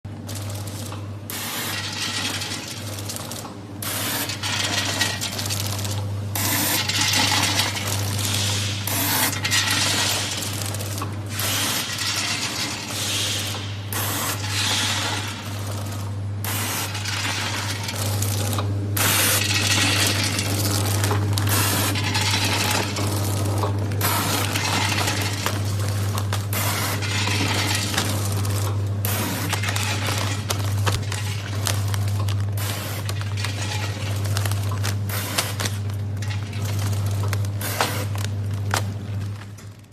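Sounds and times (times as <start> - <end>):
packing machine humming: 0.1 - 39.9.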